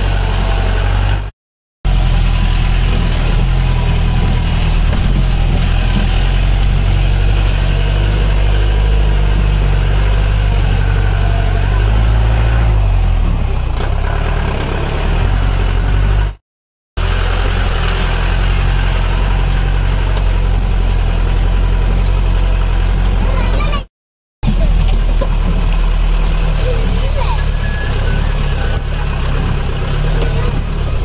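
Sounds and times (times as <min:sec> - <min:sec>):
engine running under load: 0:00.0 - 0:01.3, 0:01.9 - 0:16.4, 0:17.0 - 0:23.8, 0:24.4 - 0:31.0.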